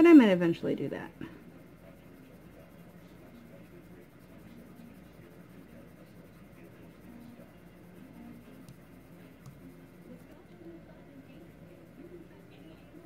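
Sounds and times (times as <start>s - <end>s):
colored pencil scratching on paper: 1.1s - 13.0s.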